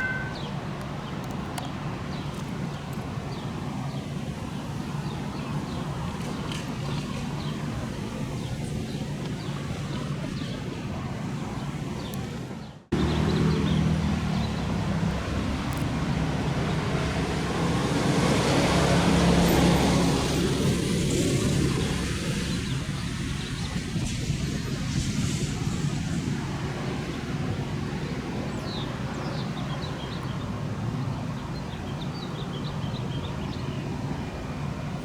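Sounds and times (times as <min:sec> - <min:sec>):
passing traffic hum: 0:00.0 - 0:35.0
vehicle hum with low drone: 0:06.1 - 0:35.0.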